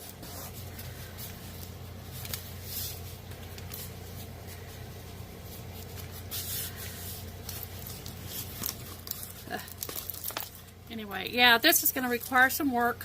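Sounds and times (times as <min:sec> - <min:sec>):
canvas rustling: 0:00.0 - 0:10.8.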